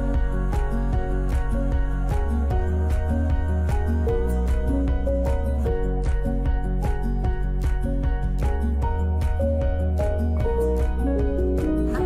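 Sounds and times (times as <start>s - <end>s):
plucked melody with steady beat: 0.0s - 12.0s.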